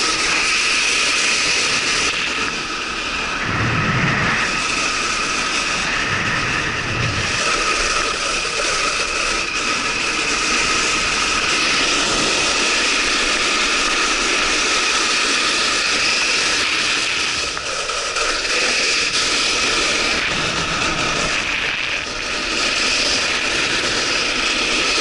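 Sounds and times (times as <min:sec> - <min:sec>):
rushing hiss of sliding over snow: 0:00.0 - 0:25.0
wind on microphone: 0:00.0 - 0:25.0.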